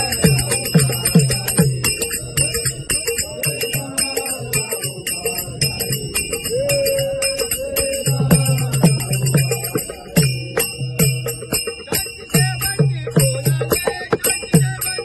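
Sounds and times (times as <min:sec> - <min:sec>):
devotional song: 0:00.0 - 0:15.0
hand cymbals ringing: 0:00.0 - 0:15.0.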